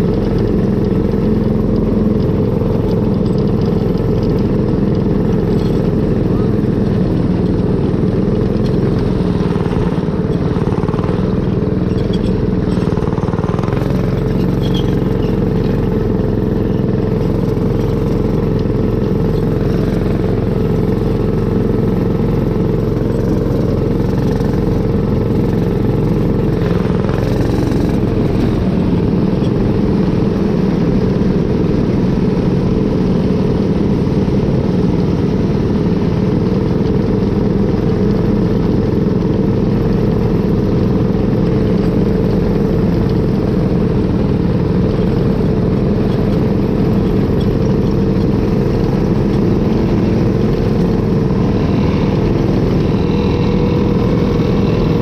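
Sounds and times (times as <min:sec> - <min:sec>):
kart engine running at speed: 0:00.0 - 0:55.0.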